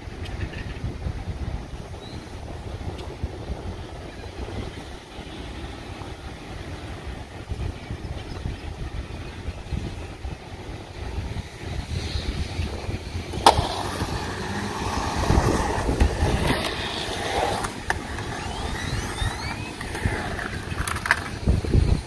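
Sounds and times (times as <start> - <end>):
skateboard wheels rolling on concrete: 0.0 - 22.0.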